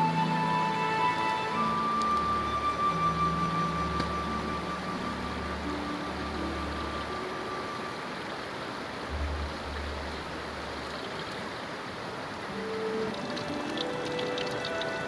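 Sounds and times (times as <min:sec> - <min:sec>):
river water rushing over rapids: 0:00.0 - 0:15.0.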